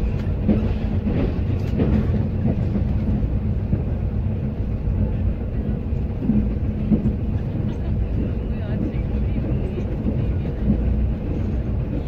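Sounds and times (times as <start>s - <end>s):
rail coach rumble: 0.0s - 12.0s.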